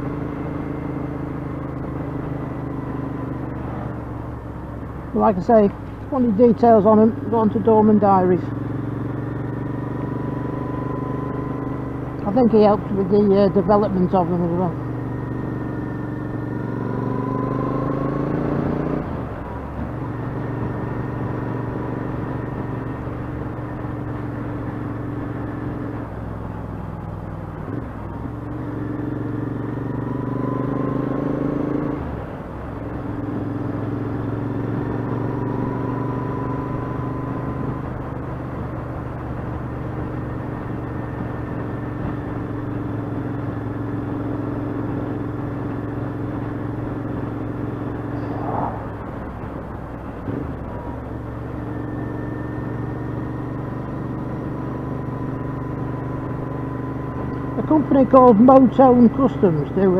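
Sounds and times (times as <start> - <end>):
motorcycle engine revving: 0.0 - 5.4, 6.1 - 59.9.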